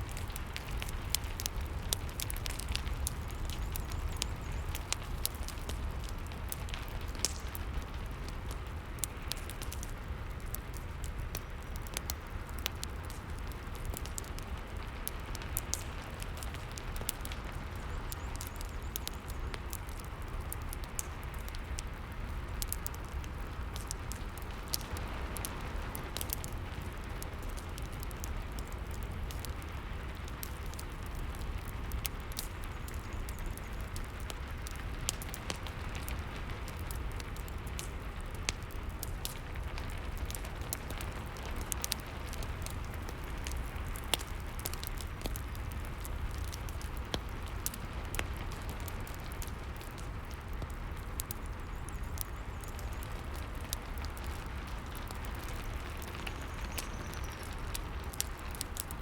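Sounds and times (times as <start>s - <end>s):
fireplace crackling and popping: 0.0s - 59.0s
steady rain: 0.0s - 59.0s.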